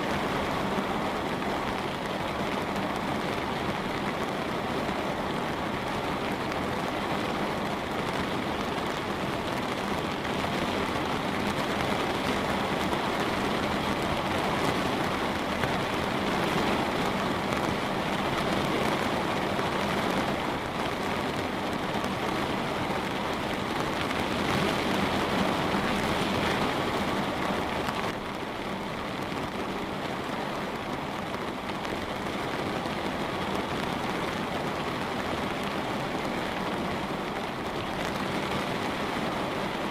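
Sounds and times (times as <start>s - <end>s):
light rain on window: 0.0s - 39.9s.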